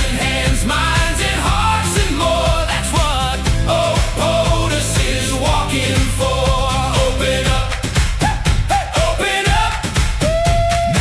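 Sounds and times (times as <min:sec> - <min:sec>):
electronic pop music: 0:00.0 - 0:11.0.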